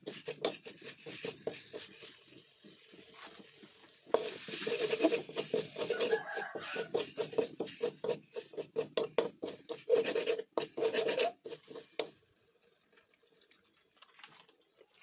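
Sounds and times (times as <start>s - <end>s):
metal spatula scraping a wok: 0.0s - 12.1s.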